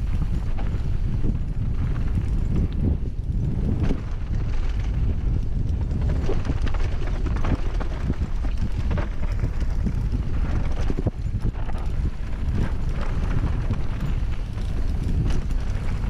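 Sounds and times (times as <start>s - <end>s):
bike knocking and rattling: 0.0s - 16.0s
wind and tyres rumbling on dirt: 0.0s - 16.0s.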